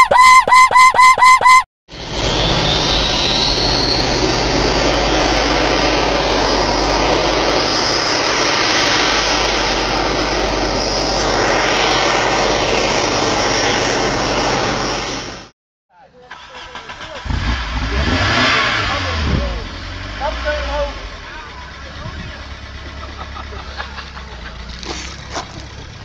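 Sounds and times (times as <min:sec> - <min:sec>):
engine roar: 0:00.0 - 0:15.5, 0:16.2 - 0:26.0.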